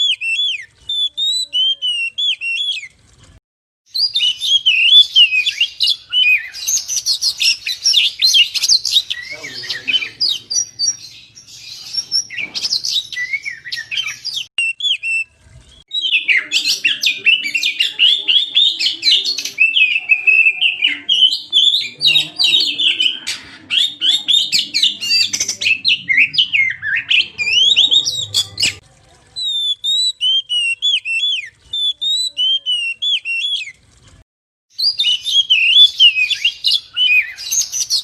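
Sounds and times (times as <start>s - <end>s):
bird singing whistled phrases: 0.0s - 2.9s, 3.9s - 28.8s, 29.4s - 33.8s, 34.8s - 38.0s.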